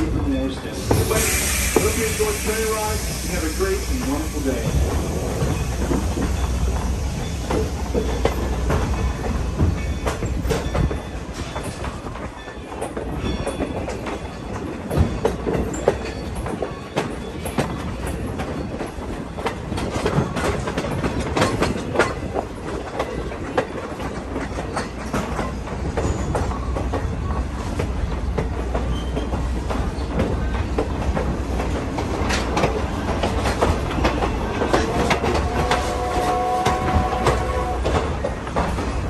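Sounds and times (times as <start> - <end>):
train rumbling over jointed track: 0.0 - 39.0.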